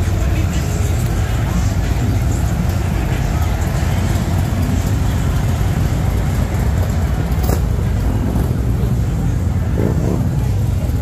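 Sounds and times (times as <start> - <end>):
crowd voices: 0.0 - 11.0
motorcycle engines rumbling: 0.0 - 11.0.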